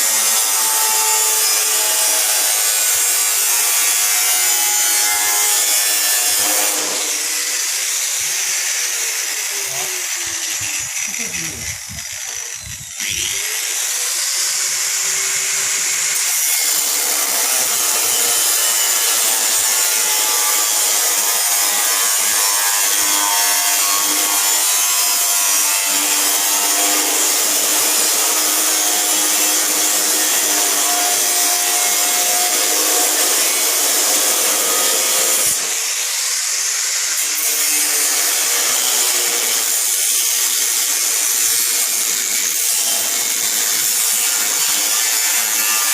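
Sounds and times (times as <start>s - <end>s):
power tool grinding: 0.0s - 45.9s.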